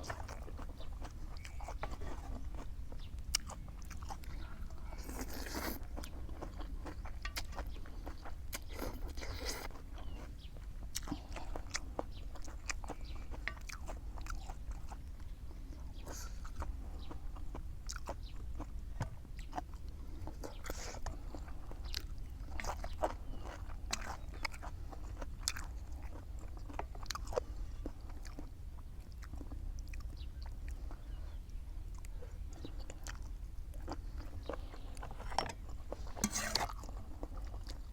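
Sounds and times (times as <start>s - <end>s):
chewing and biting: 0.0s - 37.9s.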